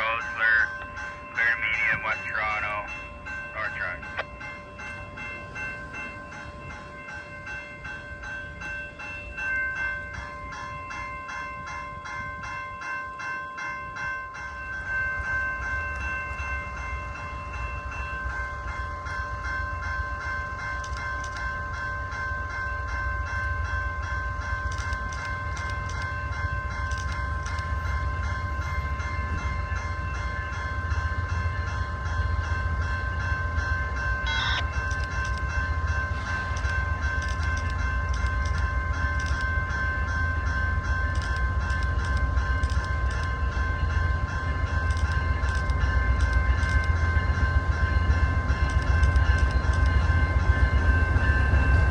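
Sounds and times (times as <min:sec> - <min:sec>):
freight train rumble: 0:00.0 - 0:51.9
high ringing tones: 0:00.0 - 0:51.9.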